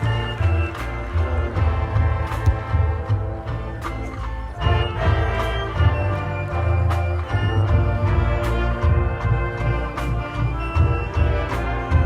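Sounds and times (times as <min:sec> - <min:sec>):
brass chords: 0:00.0 - 0:12.0
sharp percussion strikes: 0:00.0 - 0:12.0.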